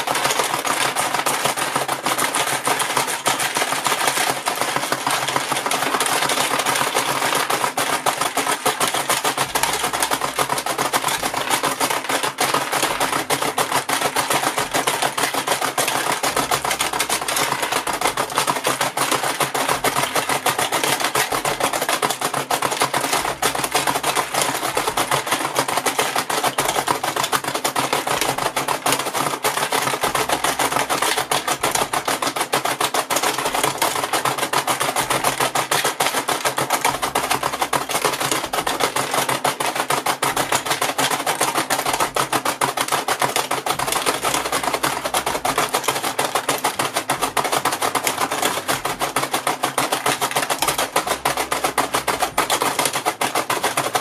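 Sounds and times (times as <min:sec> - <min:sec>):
plastic toy game clacking: 0:00.0 - 0:54.0.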